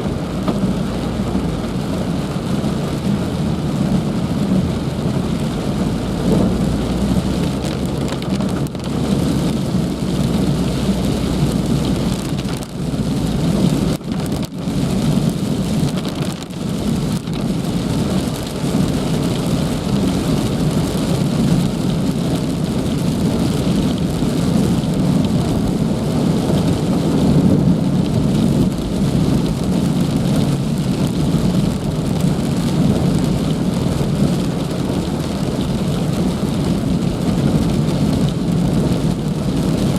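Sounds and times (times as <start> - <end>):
heavy rain falling: 0.0 - 39.9
low rumble: 0.0 - 39.9.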